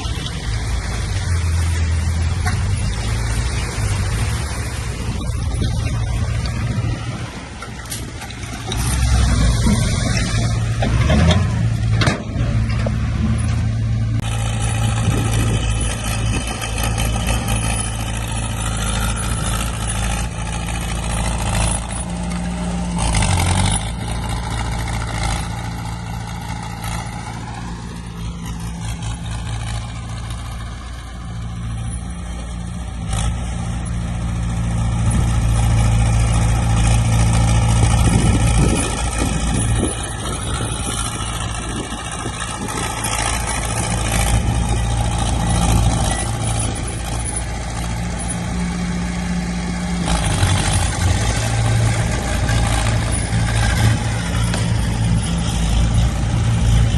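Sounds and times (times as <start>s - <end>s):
diesel machinery engine drone: 0.0s - 56.9s.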